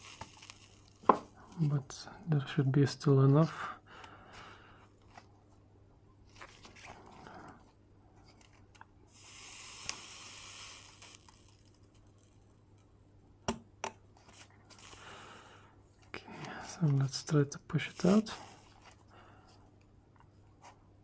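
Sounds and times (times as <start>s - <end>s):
soft desoldering hiss: 0.0s - 21.0s.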